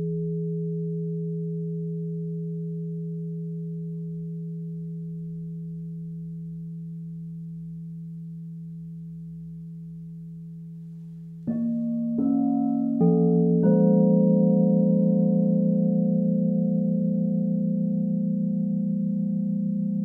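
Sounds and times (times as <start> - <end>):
singing bowl deep tone: 0.0 - 20.0.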